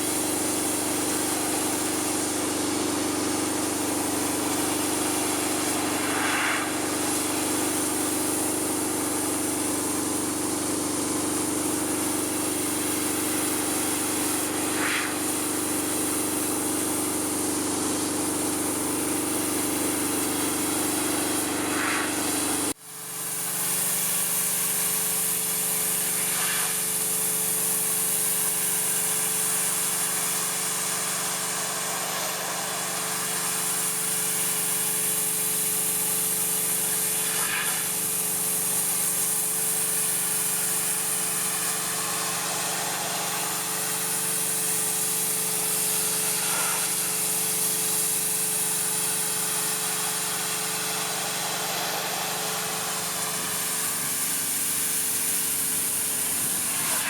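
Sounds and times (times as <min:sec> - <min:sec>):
pressure washer motor hum: 0:00.0 - 0:57.0
water jet hissing: 0:00.0 - 0:57.0.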